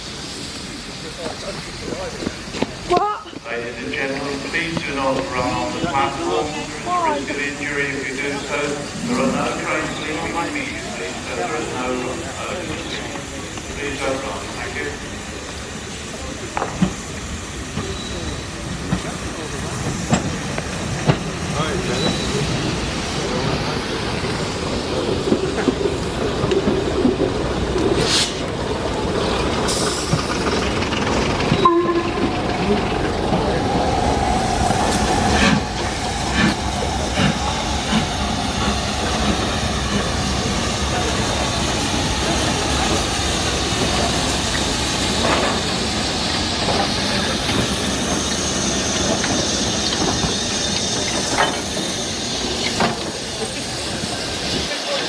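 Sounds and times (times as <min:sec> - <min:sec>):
train hiss: 0:00.0 - 0:55.0
train rumble: 0:00.0 - 0:55.0.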